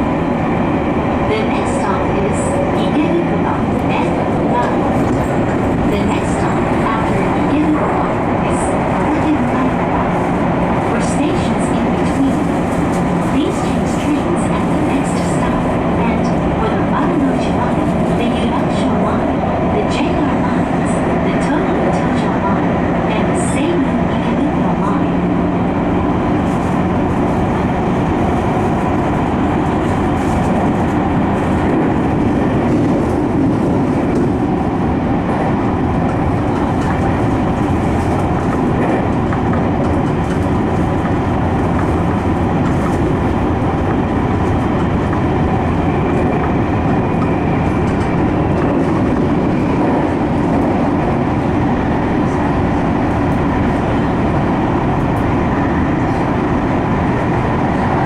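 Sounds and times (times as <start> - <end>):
electric train rumbling in tunnel: 0.0 - 58.0.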